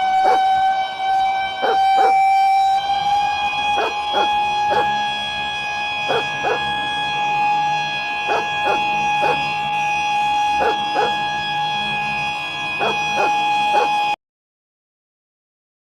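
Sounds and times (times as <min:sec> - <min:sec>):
emergency alert alarm: 0:00.0 - 0:14.2.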